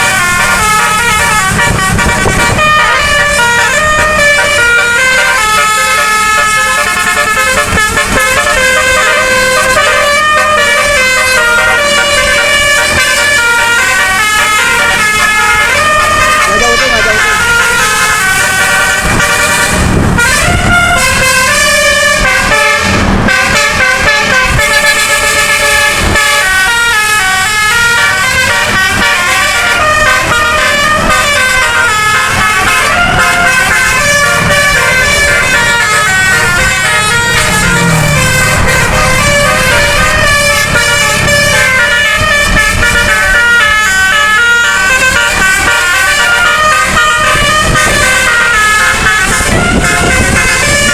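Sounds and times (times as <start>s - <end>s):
musical air horn melody: 0.0s - 50.9s.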